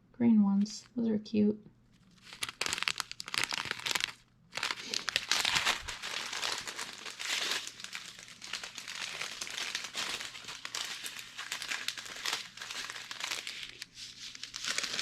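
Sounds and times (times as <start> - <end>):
plastic bags crinkling: 1.9 - 15.0.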